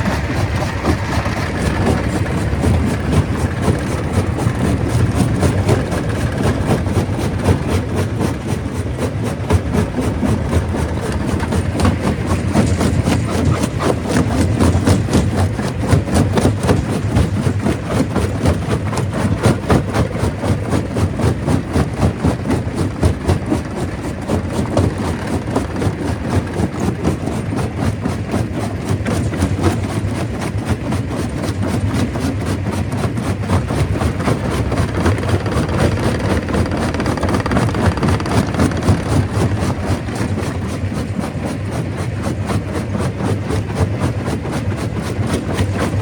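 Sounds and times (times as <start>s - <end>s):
stone crusher engine drone: 0.0s - 46.0s.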